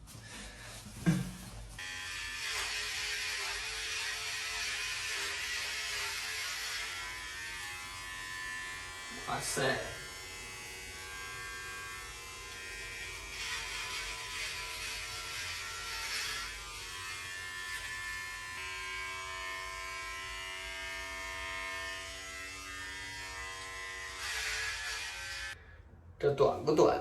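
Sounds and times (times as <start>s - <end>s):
electric hair clippers buzzing: 1.8s - 25.6s.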